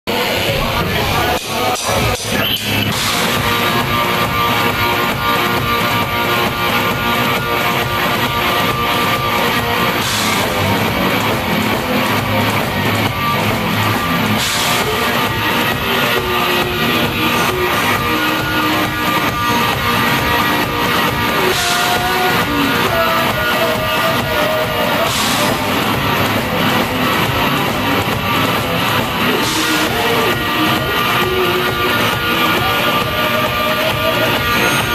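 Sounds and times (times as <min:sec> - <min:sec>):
drum kit: 0:00.1 - 0:34.9
electric guitar: 0:00.1 - 0:34.9.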